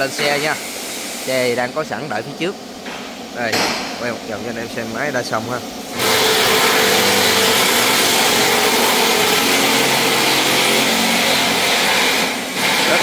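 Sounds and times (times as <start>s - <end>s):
machine whirring hiss: 0.0s - 13.0s.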